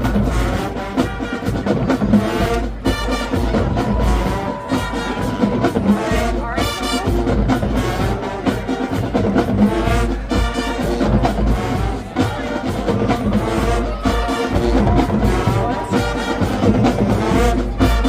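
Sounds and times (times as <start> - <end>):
brass playing tune: 0.0 - 18.0
marching drums: 0.0 - 18.0.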